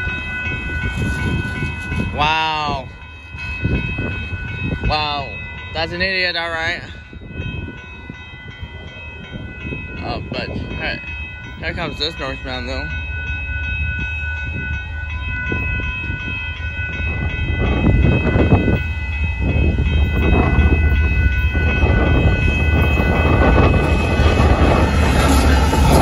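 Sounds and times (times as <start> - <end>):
high ringing tone: 0.0 - 26.0
locomotive engine rumble: 0.0 - 26.0.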